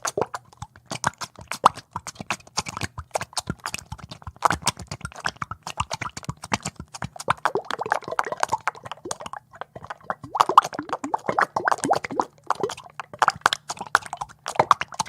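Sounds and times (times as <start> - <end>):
bubbles popping in thick oil: 0.0 - 15.0.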